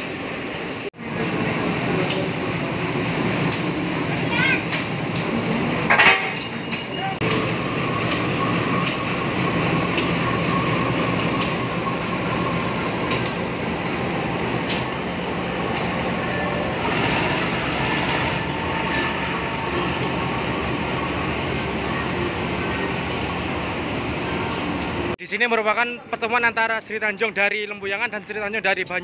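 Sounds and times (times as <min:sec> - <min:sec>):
diesel locomotive engine rumble: 0:00.0 - 0:25.2.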